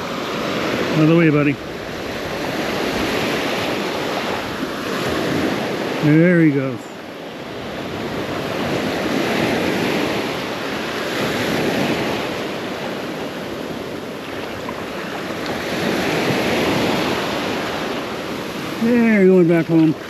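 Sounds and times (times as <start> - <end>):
surf washing onto beach: 0.0 - 20.0
wind on microphone: 0.0 - 20.0.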